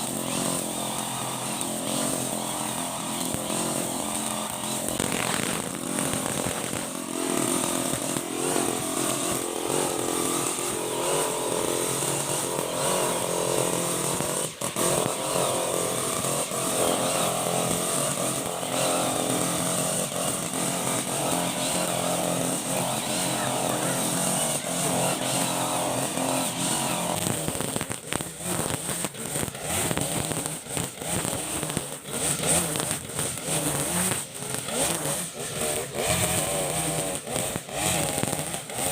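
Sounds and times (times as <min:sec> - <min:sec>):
brush cutter engine at high revs: 0:00.0 - 0:38.9.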